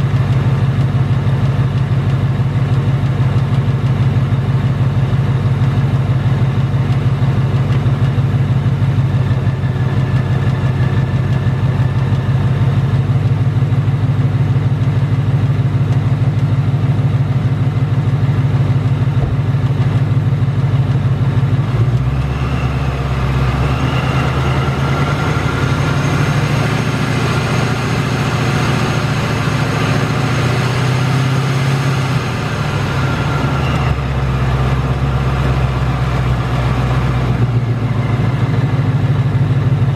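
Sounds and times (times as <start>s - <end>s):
car engine idling: 0.0s - 39.9s
engine ticking: 0.0s - 39.9s
high engine whine: 0.0s - 39.9s.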